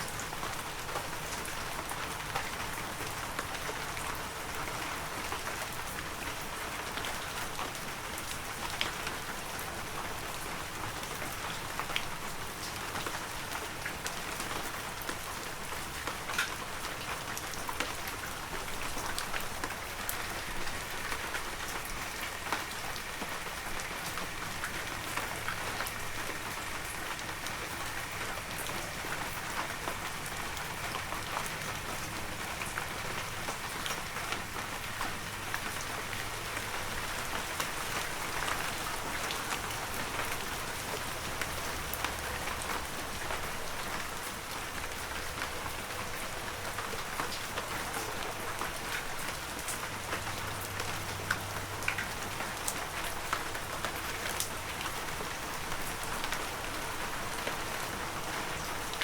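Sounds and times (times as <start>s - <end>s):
raindrops ticking on surfaces: 0.0s - 59.0s.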